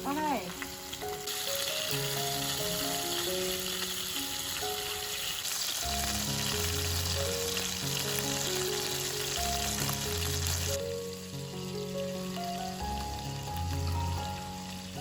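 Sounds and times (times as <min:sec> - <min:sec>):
background music: 0:00.0 - 0:15.0
food sizzling in a pan: 0:00.0 - 0:15.0.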